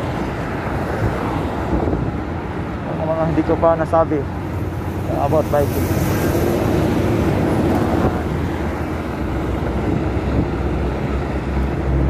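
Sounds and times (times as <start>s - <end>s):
low rumble of road traffic: 0.0s - 12.0s
wind rushing on microphone: 0.0s - 12.0s.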